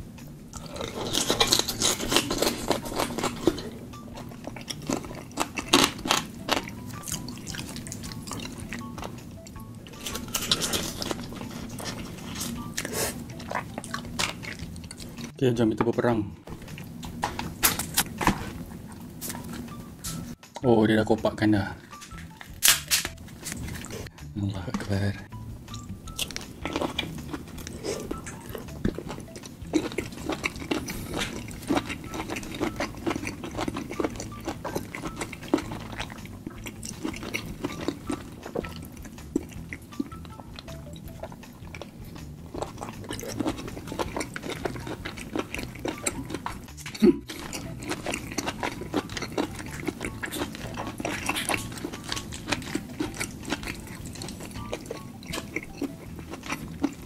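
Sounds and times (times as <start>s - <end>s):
wet chewing and sucking: 0.6s - 15.3s, 26.1s - 57.0s.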